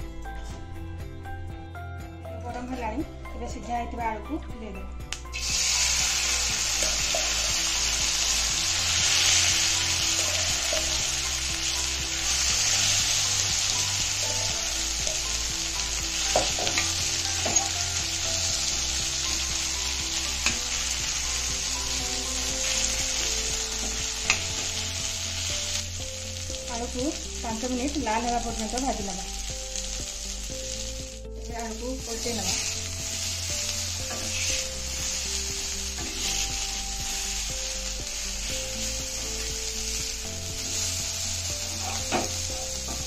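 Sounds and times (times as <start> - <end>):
potatoes sizzling in hot oil: 5.2 - 43.0.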